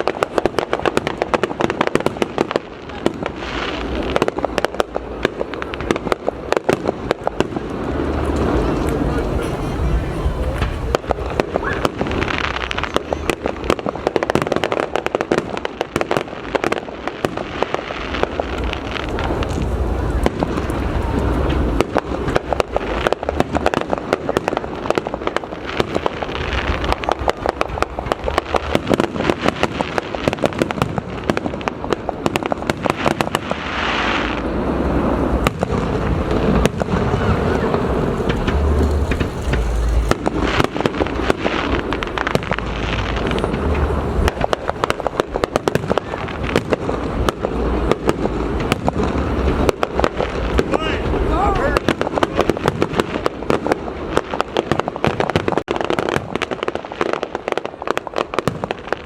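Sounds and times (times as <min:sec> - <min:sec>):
deep fireworks booms: 0:00.0 - 0:59.0
fireworks cracks and bangs: 0:00.0 - 0:59.0.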